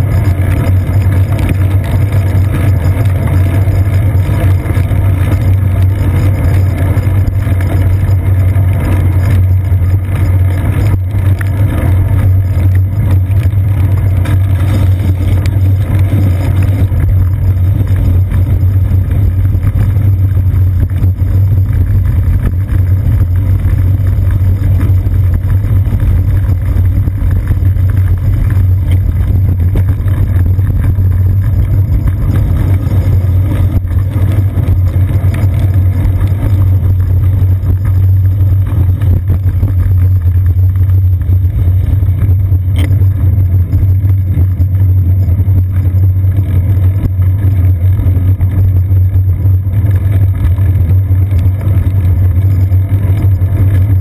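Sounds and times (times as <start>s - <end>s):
bicycle road vibration rumble: 0.0s - 54.0s
tyre noise on wet path: 0.0s - 54.0s
wind: 0.0s - 54.0s.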